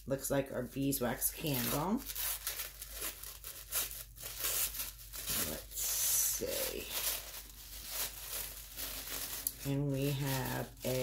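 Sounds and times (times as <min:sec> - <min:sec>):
paper wrapping crinkling and tearing: 0:01.0 - 0:11.0.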